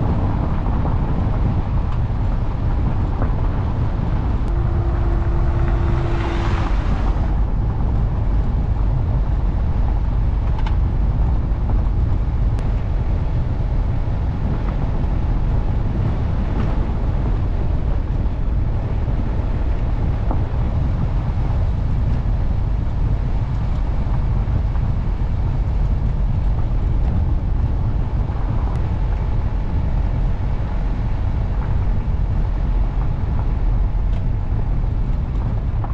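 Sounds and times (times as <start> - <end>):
wind on microphone: 0.0 - 35.9
car driving on gravel road: 0.1 - 35.9.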